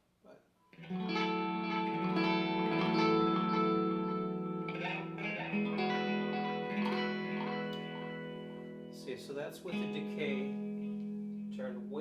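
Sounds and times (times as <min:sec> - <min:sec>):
electric guitar chords with delay: 0:00.7 - 0:12.0.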